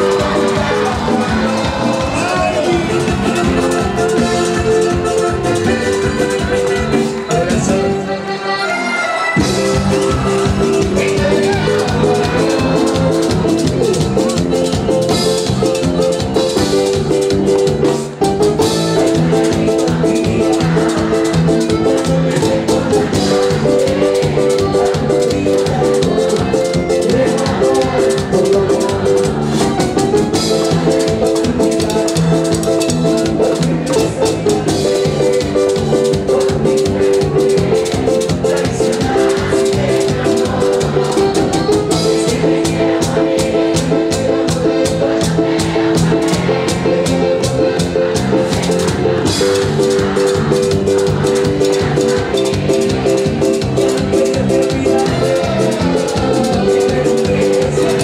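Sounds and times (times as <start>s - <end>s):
shaker and drum rhythm: 0.0s - 7.9s, 9.4s - 58.0s
keyboard chords: 0.0s - 58.0s.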